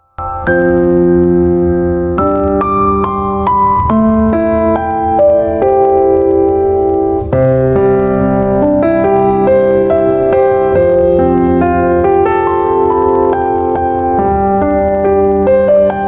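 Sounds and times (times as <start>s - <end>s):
electric piano chords and melody: 0.0s - 16.0s
steady low bass: 0.7s - 15.4s.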